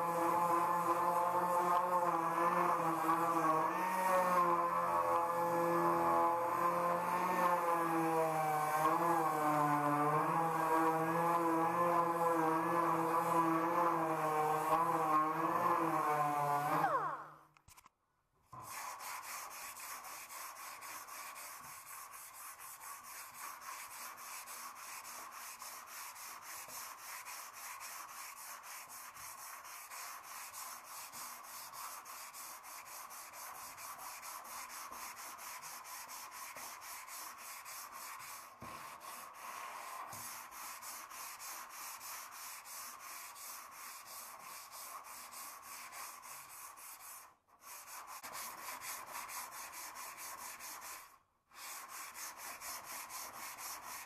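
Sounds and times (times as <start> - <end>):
sanding strokes: 0.0 - 17.1, 18.6 - 54.0.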